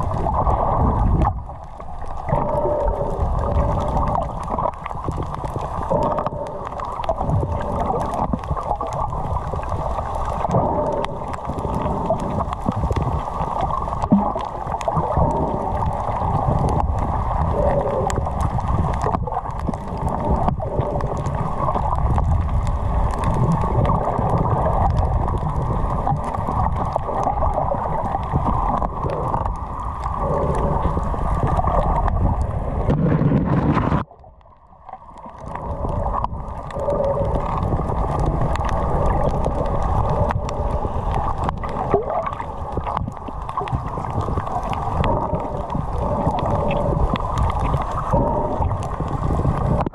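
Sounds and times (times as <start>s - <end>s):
muffled underwater rumbling: 0.0s - 49.9s.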